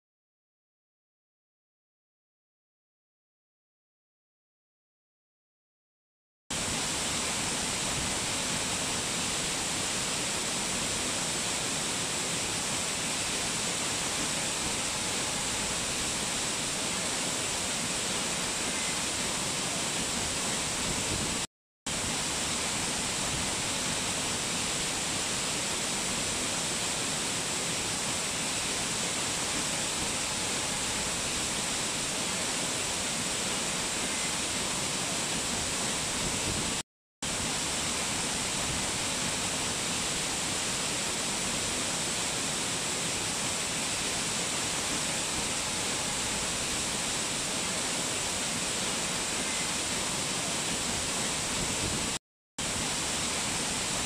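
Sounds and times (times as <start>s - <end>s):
waterfall roaring: 6.6s - 54.0s.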